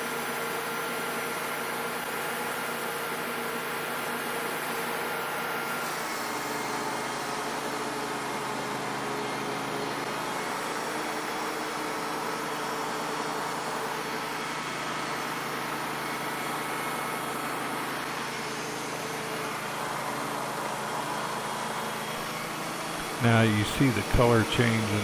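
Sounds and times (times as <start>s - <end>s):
sawmill engine running: 2.7s - 25.0s.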